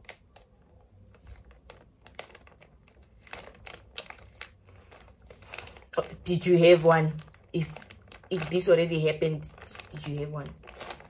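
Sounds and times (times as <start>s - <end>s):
handling clicks and crinkles: 0.0s - 11.0s.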